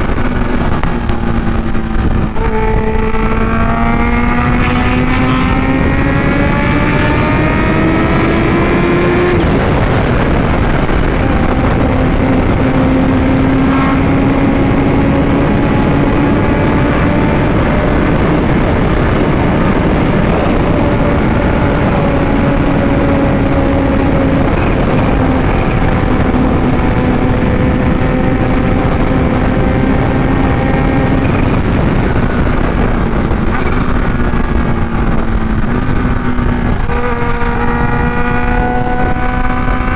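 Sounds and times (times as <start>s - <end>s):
motorcycle engine revving high: 0.0s - 39.9s
wind rush: 0.0s - 39.9s.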